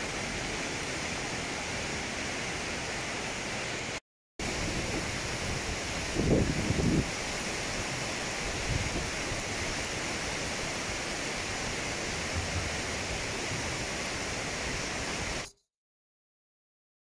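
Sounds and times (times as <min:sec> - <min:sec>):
floodwater rushing: 0:00.0 - 0:15.5.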